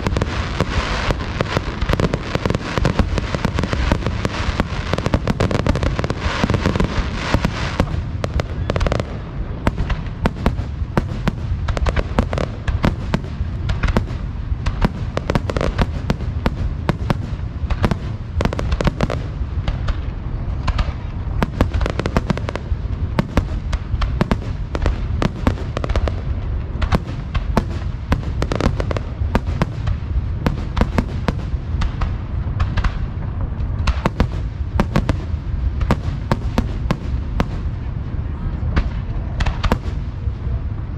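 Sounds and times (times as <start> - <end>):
deep rumble: 0.0 - 40.9
fireworks bursting: 0.0 - 40.9
fireworks crackling: 0.0 - 40.9.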